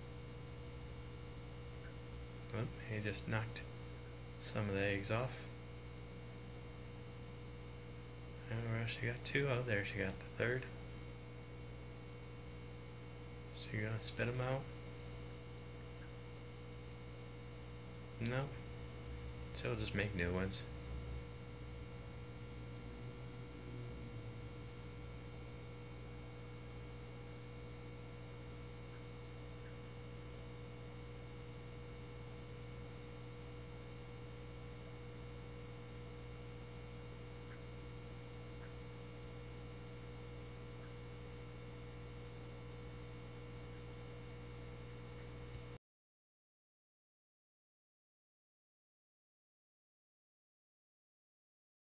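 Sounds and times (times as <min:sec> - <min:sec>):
steady electrical hum: 0:00.0 - 0:45.8.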